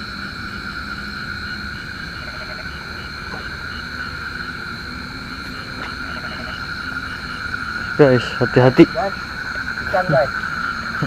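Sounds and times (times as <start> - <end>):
frogs and insects trilling: 0.0 - 11.0.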